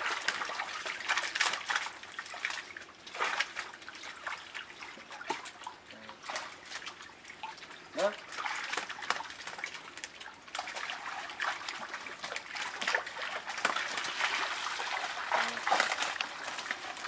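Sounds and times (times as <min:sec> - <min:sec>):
fish splashing and thrashing: 0:00.0 - 0:17.0
water trickling off nets: 0:00.0 - 0:17.0.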